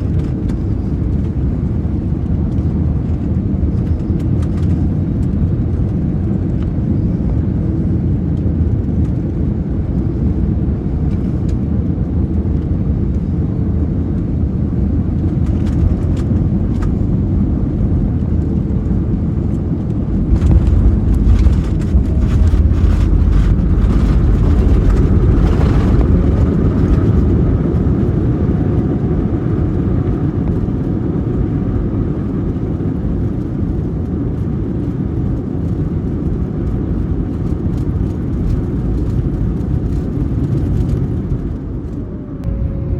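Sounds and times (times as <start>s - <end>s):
airplane cabin rumble: 0.0s - 42.9s.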